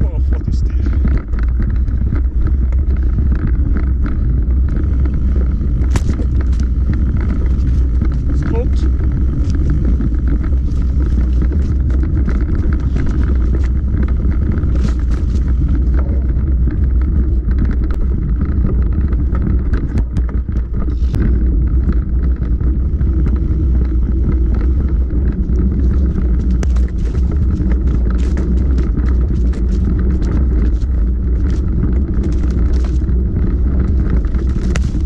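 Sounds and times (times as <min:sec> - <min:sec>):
bike clicks and rattles: 0:00.0 - 0:35.0
wind and tyre rumble: 0:00.0 - 0:35.0.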